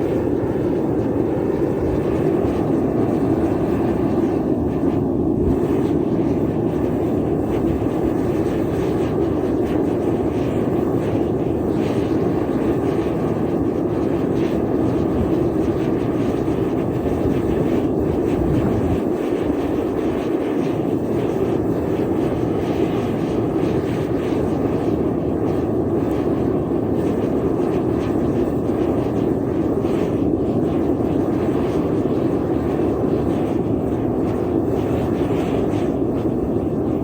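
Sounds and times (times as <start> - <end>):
furnace burner roaring: 0.0 - 37.0.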